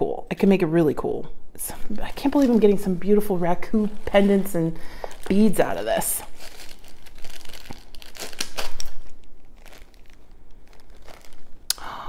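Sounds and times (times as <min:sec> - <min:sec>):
plastic bag crinkling: 0:01.8 - 0:11.7.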